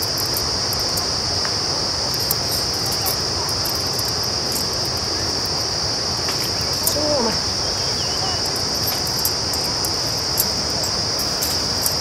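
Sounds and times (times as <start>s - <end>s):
background hiss: 0.0s - 12.0s
insects chirring: 0.0s - 12.0s.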